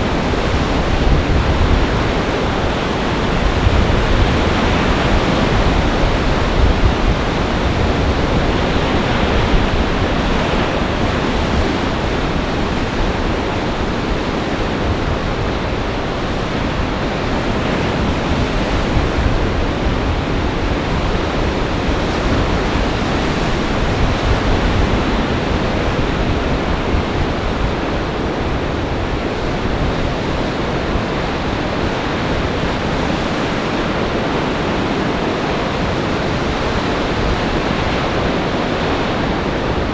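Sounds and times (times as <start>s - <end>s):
waves breaking: 0.0s - 39.9s
wind rumbling on microphone: 0.0s - 39.9s.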